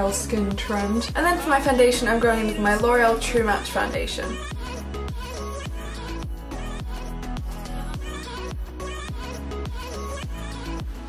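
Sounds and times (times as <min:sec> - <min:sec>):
electronic beat music: 0:00.0 - 0:11.0
kick drum: 0:00.0 - 0:11.0.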